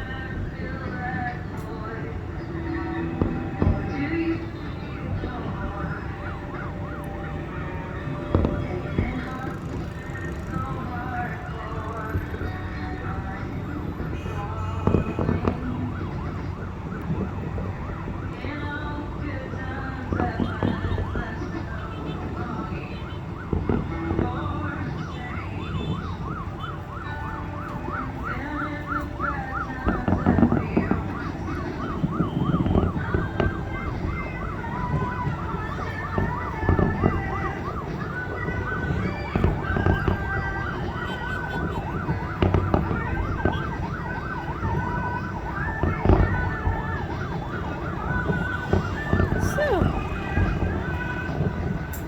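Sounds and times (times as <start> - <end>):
siren yelping: 2.2 - 52.0
firework bursts thumping: 3.1 - 6.3, 7.7 - 13.2, 14.0 - 18.0, 20.1 - 52.0.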